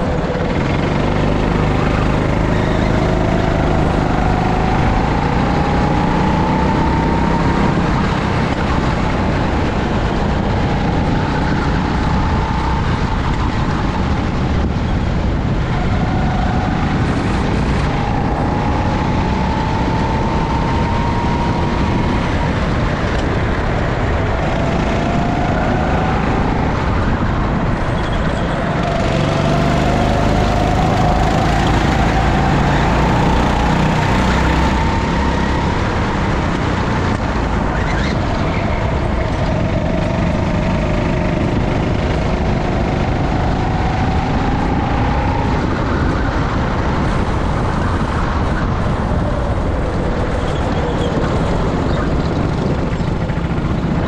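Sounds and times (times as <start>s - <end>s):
go-kart engine: 0.0s - 54.0s
wind rumble on microphone: 0.0s - 54.0s.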